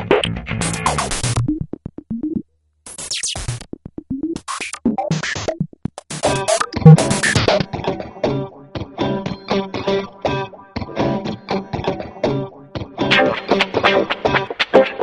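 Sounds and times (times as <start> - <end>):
choppy synthesizer sounds: 0.0 - 15.0.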